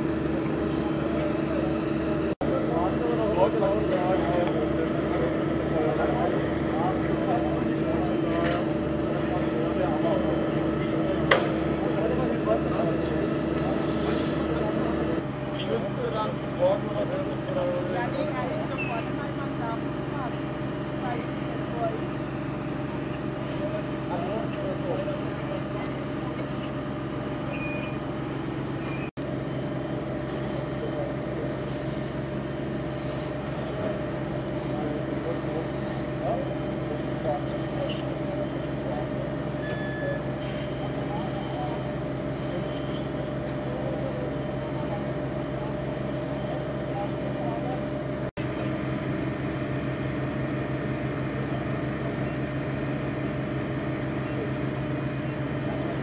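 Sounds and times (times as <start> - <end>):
vehicle engines humming: 0.0 - 56.0.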